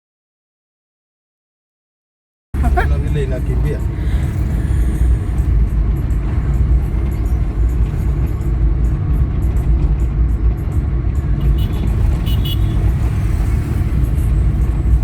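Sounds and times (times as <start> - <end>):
vehicle engine and road noise: 2.6 - 15.0.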